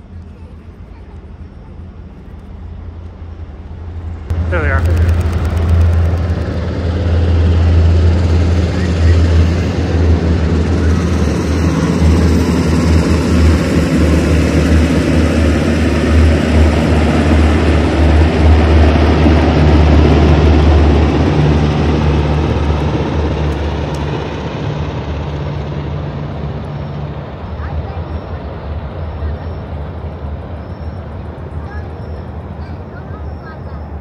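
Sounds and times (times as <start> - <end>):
helicopters flying overhead: 0.0 - 34.0.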